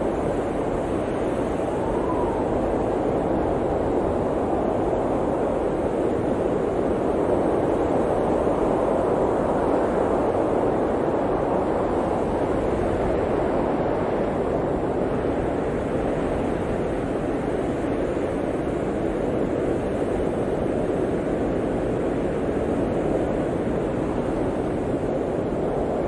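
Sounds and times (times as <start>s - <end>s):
blizzard wind rushing: 0.0s - 26.0s.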